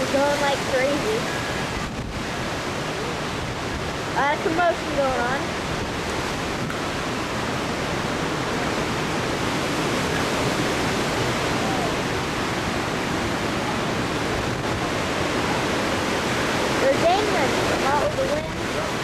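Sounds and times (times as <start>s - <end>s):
strong wind thrashing trees: 0.0s - 19.0s.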